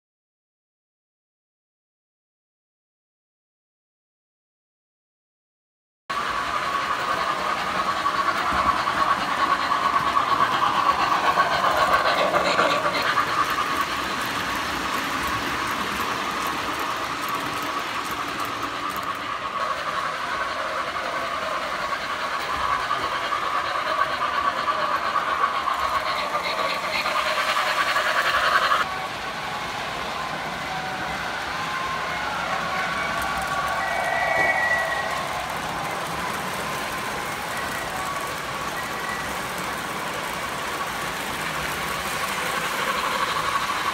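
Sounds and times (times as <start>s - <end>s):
model train running on track: 6.1s - 43.9s.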